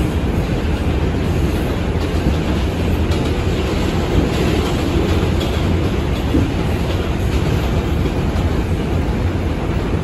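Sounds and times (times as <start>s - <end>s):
rail joint clicks: 0.0s - 10.0s
wheels rumbling on rails: 0.0s - 10.0s.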